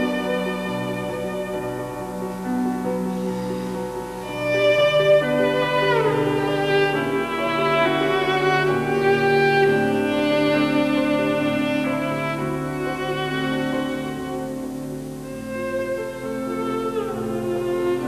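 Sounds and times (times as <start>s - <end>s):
cello melody: 0.0s - 18.0s.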